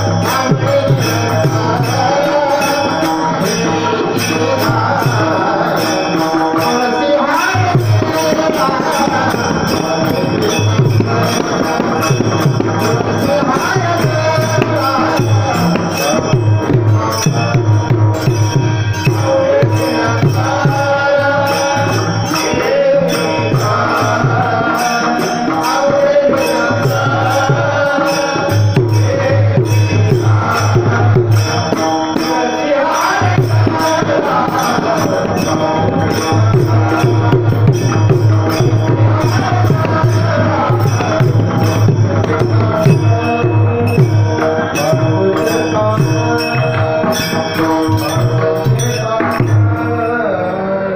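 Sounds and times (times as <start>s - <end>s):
jingling percussion: 0.0s - 50.9s
person singing devotional song: 0.0s - 50.9s
hand drum beat: 6.6s - 50.0s.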